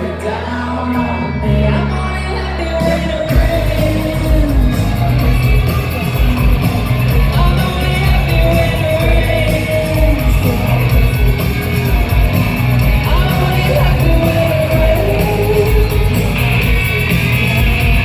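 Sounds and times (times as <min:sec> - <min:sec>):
person singing: 0:00.0 - 0:17.0
live rock band playing: 0:00.0 - 0:18.0.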